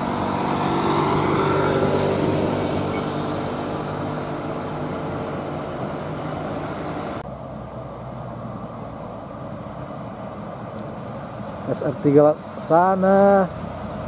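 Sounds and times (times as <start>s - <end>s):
heavy vehicles rumbling: 0.0s - 14.0s
road noise: 0.0s - 14.0s
truck diesel engine passing: 0.0s - 14.0s.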